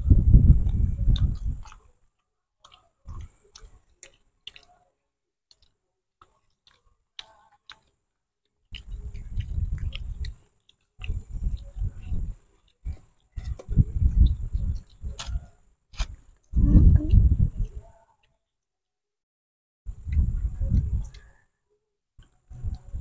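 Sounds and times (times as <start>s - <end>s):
chewing and lip-smacking: 0.1s - 18.4s, 20.0s - 21.4s, 22.2s - 23.0s.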